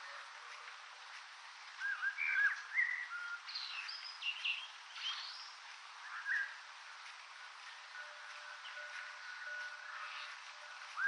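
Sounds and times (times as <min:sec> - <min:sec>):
steady hiss: 0:00.0 - 0:11.0
small birds chirping: 0:01.6 - 0:11.0.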